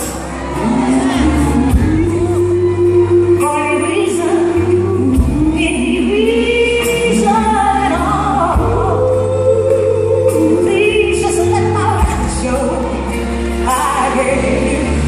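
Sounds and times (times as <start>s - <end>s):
band playing soul ballad: 0.0s - 15.0s
woman singing into microphone: 0.0s - 15.0s.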